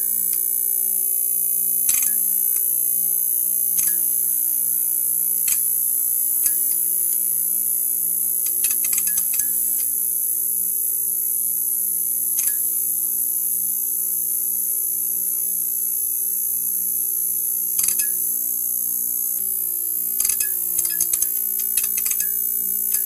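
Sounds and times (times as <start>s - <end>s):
neon sign buzzing: 0.0s - 23.0s.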